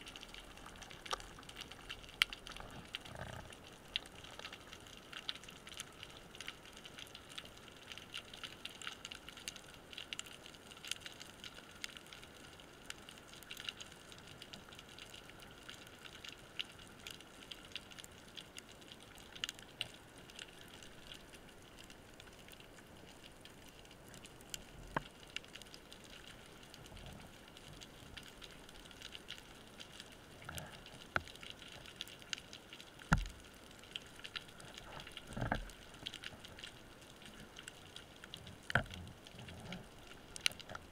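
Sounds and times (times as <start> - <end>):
underwater crackle of tiny clicks: 0.0 - 40.9.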